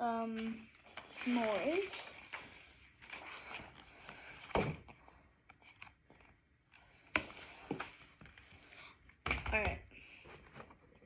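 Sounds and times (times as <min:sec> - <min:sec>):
rustling of book and cardboard: 0:00.1 - 0:06.4, 0:07.1 - 0:11.0.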